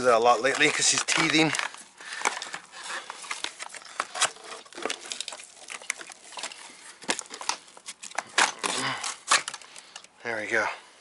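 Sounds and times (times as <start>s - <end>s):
plastic clicks and creaks: 0.4s - 10.2s.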